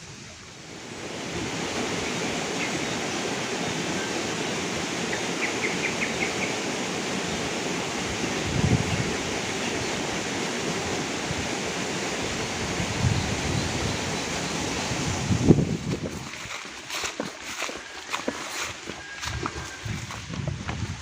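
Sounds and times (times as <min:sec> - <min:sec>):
wind buffeting microphone: 0:00.0 - 0:05.4, 0:06.9 - 0:21.0
river water rushing: 0:00.0 - 0:21.0.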